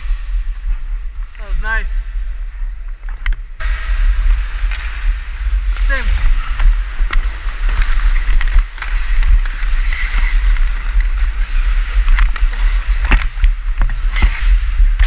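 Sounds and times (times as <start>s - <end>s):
wind rumbling on microphone: 0.0s - 15.0s
skate blades scraping ice: 2.7s - 15.0s.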